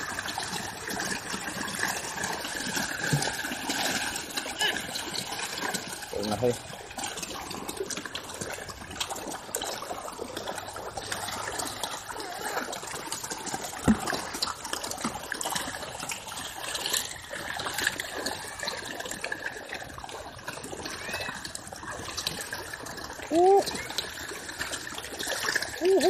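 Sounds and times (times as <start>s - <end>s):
fish splashing at water surface: 0.0s - 26.0s.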